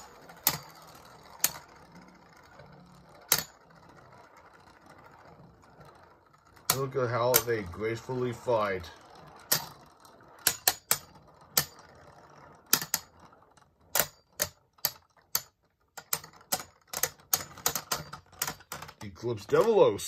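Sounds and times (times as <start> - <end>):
spinning tops clacking: 0.0 - 20.0
whir of spinning tops: 0.0 - 20.0.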